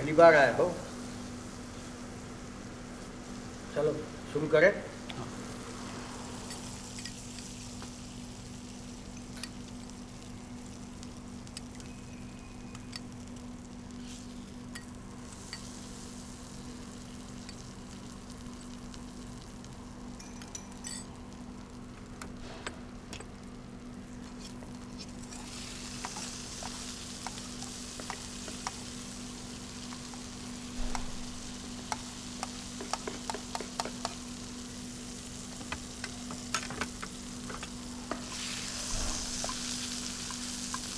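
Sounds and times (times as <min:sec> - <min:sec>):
food sizzling in a wok: 0:00.0 - 0:04.3, 0:04.9 - 0:20.2, 0:21.0 - 0:40.9.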